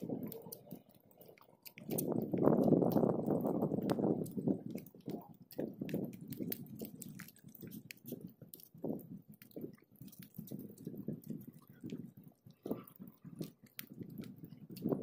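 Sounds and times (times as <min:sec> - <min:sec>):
people chewing and eating: 0:00.0 - 0:15.0
small clicks and rustles: 0:00.0 - 0:15.0.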